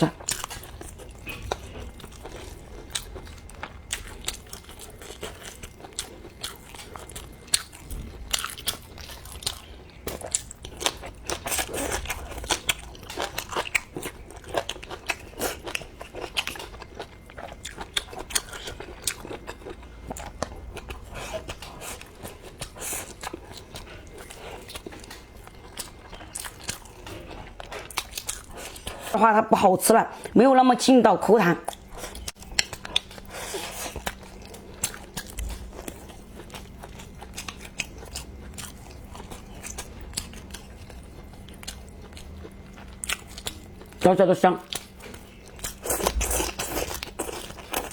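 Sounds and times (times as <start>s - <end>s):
person chewing chewy food: 0.0s - 29.2s, 31.6s - 47.9s.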